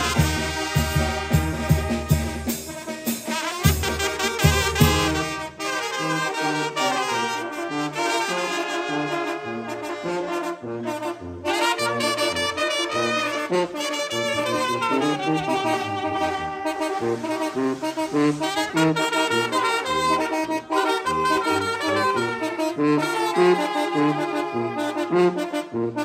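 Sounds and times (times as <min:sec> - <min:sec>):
trumpets playing in harmony: 0:00.0 - 0:26.0.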